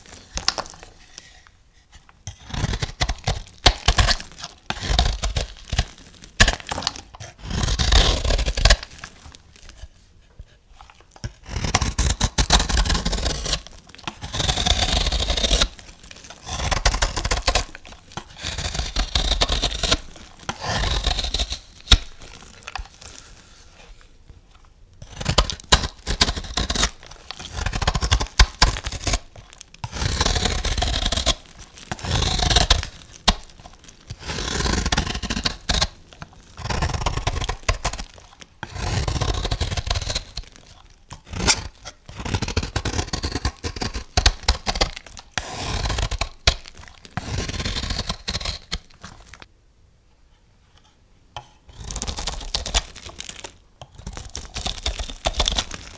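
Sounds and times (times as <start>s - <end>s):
knife cutting through soap: 0.0s - 49.5s, 50.8s - 55.9s.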